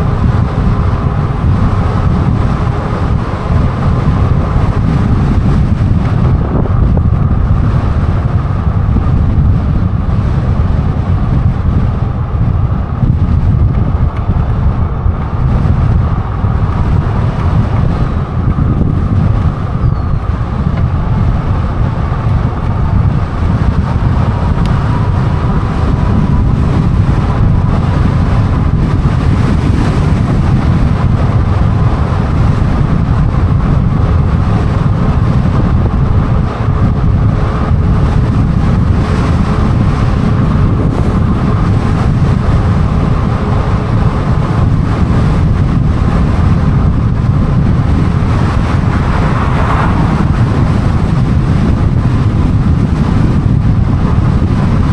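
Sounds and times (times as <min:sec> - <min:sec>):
road noise: 0:00.0 - 0:54.9
wind buffeting microphone: 0:00.0 - 0:54.9.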